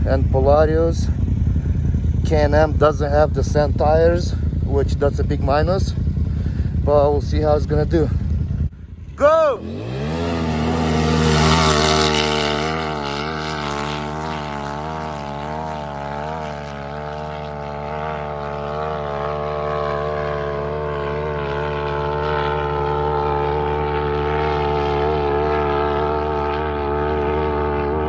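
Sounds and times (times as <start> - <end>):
high-rev engine drone: 0.0 - 28.0.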